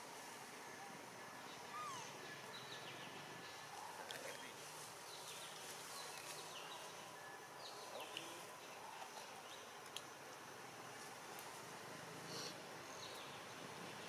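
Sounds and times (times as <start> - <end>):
forest ambience: 0.0 - 14.0.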